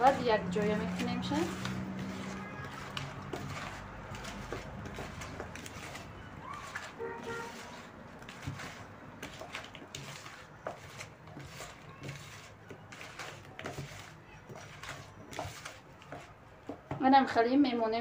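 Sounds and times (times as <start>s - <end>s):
hand squishing meat in marinade: 0.0s - 16.9s.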